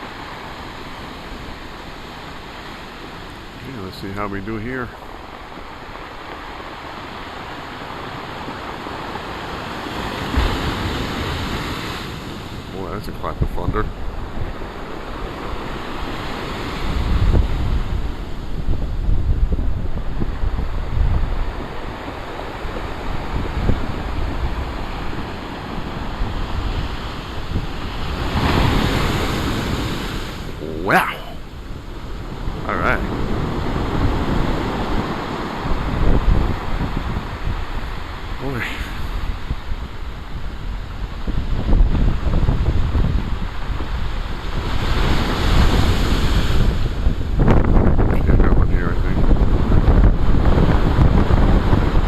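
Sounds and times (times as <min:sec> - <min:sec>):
storm surf rushing on shore: 0:00.0 - 0:52.0
wind on microphone: 0:00.0 - 0:52.0.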